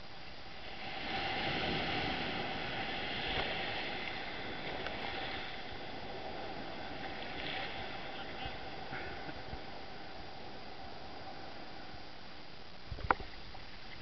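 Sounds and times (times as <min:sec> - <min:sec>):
surf washing up shore: 0:00.2 - 0:12.1
small waves breaking: 0:00.3 - 0:12.0.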